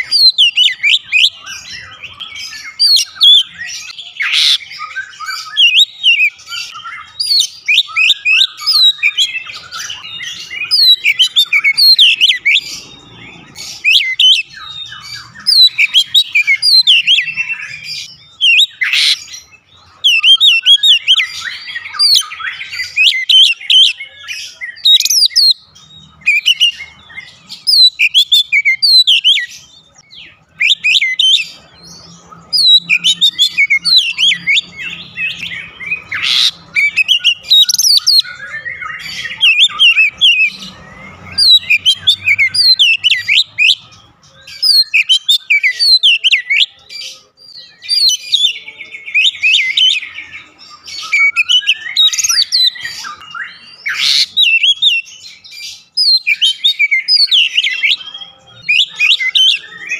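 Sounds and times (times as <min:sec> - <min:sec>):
bird singing loudly: 0:00.0 - 0:59.9.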